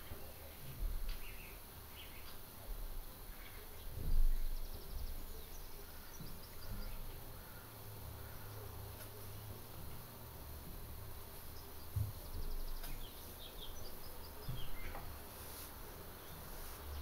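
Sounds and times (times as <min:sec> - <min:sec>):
faint bird chirps: 0:00.0 - 0:02.4, 0:03.2 - 0:09.6, 0:11.1 - 0:17.0.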